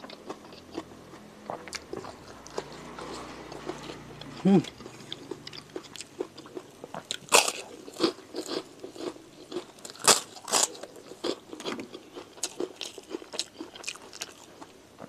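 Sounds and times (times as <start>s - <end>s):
cracker crunching: 1.5s - 14.7s.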